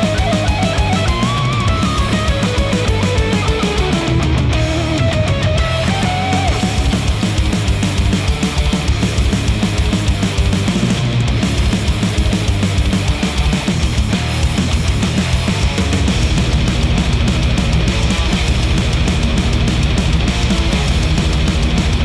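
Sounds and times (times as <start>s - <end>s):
heavy rock music: 0.0s - 22.0s.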